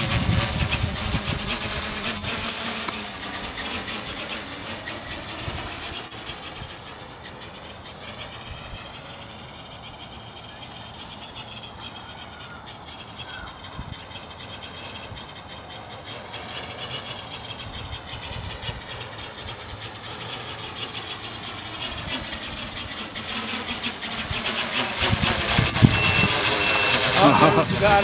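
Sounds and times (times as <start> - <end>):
drone propellers whirring: 0.0 - 28.0.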